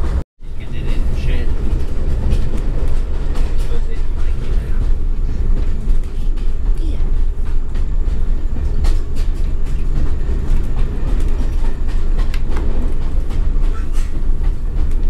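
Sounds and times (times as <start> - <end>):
train rumbling inside coach: 0.0 - 15.0
train wheels clicking on track: 0.0 - 15.0.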